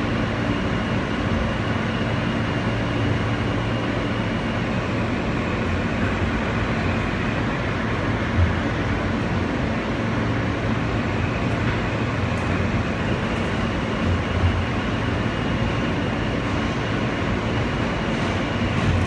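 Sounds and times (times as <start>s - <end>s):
low constant hum: 0.0s - 19.0s
subway train rumbling on track: 0.0s - 19.0s.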